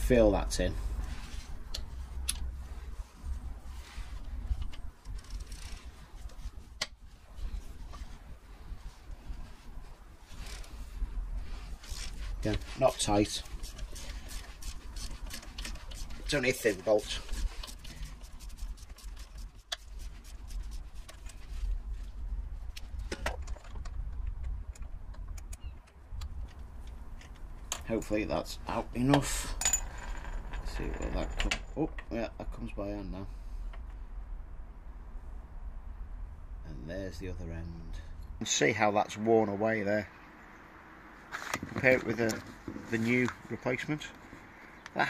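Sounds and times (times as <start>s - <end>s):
steady low rumble: 0.0s - 38.5s.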